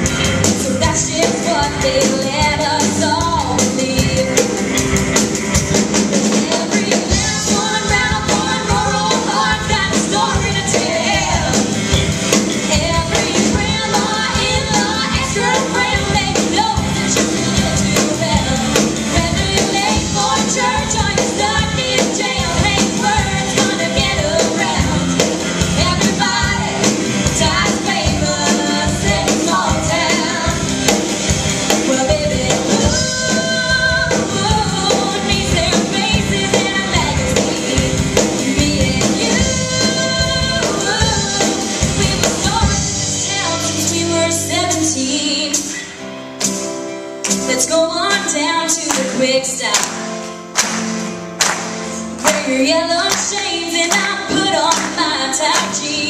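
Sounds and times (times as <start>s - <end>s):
sung vocals: 0.0s - 5.0s, 6.0s - 45.7s, 52.2s - 56.0s
bass guitar: 0.0s - 48.6s
drums: 0.0s - 56.0s
electric guitars: 0.0s - 56.0s.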